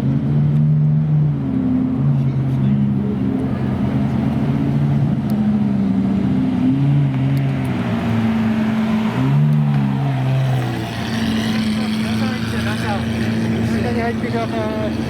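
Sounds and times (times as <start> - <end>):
sports car engines revving: 0.0 - 15.0.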